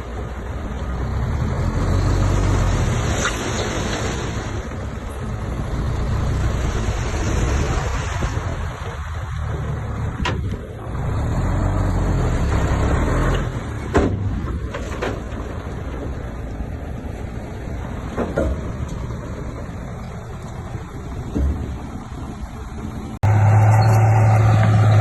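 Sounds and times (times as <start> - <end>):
bulldozer diesel engine rumble: 0.0 - 25.0.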